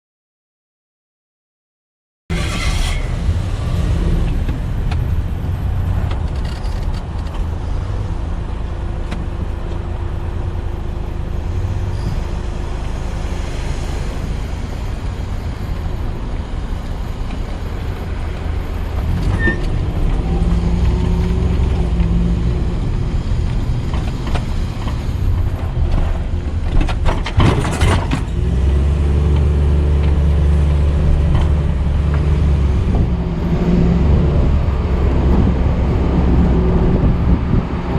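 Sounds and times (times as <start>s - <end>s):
motor vehicle rumbling: 2.3s - 37.9s.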